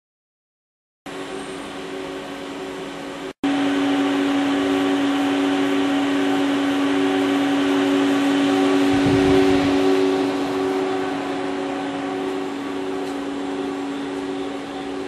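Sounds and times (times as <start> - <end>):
lathe machine humming: 1.1 - 15.0.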